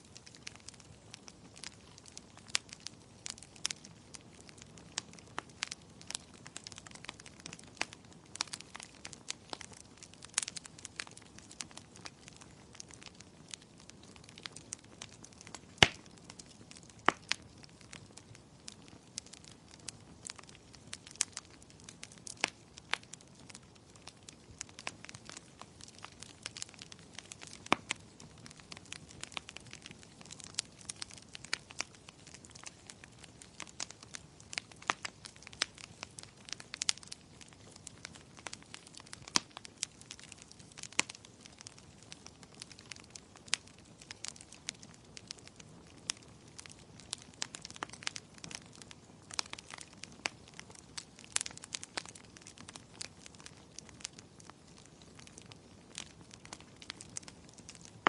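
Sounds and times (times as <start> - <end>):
soft steady hiss: 0.0 - 58.0
wood fire crackling: 0.0 - 58.0.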